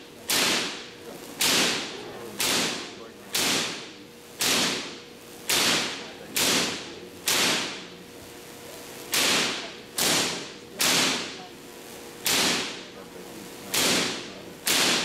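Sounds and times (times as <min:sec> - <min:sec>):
artificial lightning cracks: 0:00.2 - 0:08.0, 0:08.8 - 0:11.4, 0:12.2 - 0:13.0, 0:13.6 - 0:15.0.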